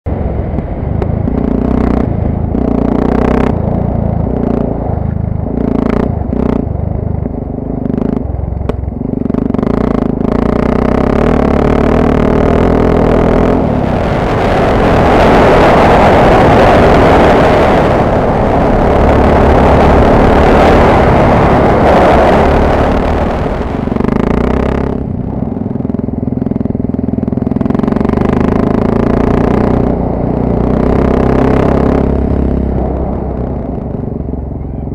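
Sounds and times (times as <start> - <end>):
motorcycle engine running: 0.0 - 34.9
loud steady rushing noise: 0.1 - 34.9.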